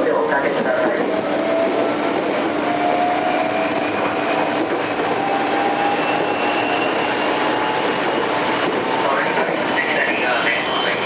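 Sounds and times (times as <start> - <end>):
train wheels rolling on rail: 0.0 - 11.0.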